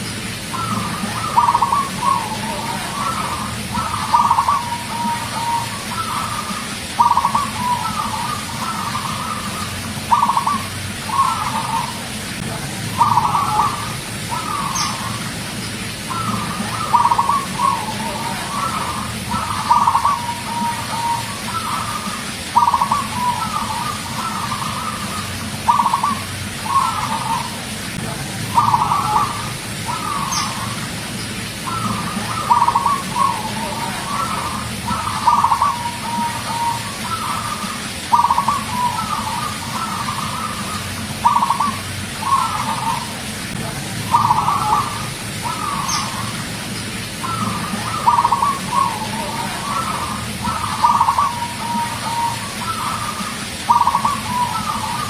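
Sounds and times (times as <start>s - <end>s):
dove cooing with rolling trill: 0.0s - 55.0s
steady low hum: 0.0s - 55.0s.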